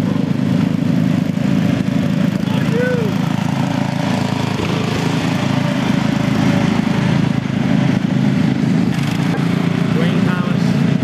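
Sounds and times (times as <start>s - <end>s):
lawn mower engines running: 0.0s - 11.0s.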